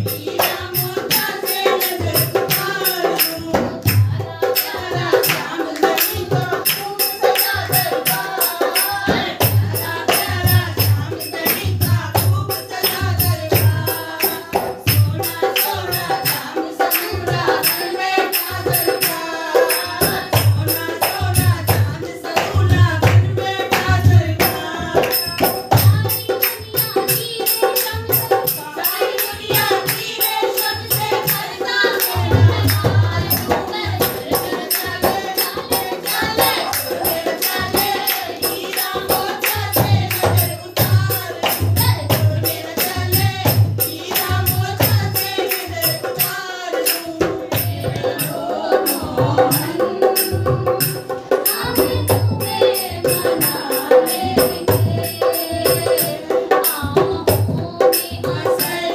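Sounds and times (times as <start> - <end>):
high jingling beat: 0.0 - 58.9
women singing devotional song: 0.0 - 58.9.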